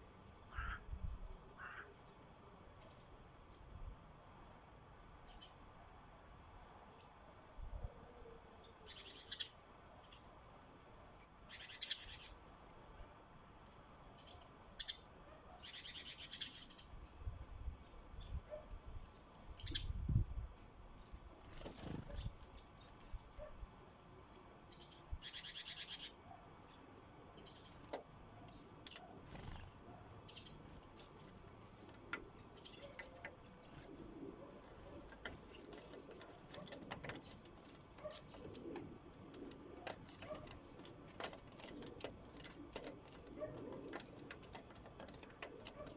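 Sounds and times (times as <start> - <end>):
sparrows chirping: 4.8 - 5.8, 8.5 - 12.8, 13.8 - 45.9.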